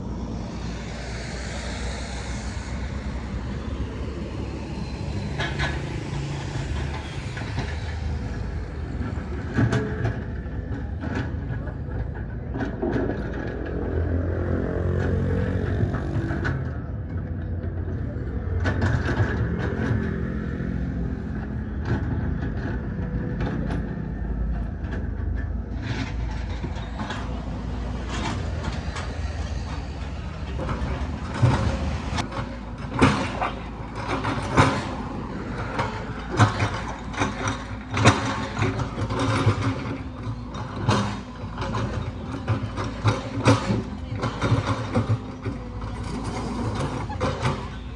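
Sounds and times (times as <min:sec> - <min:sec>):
engine running low: 0:00.0 - 0:47.9.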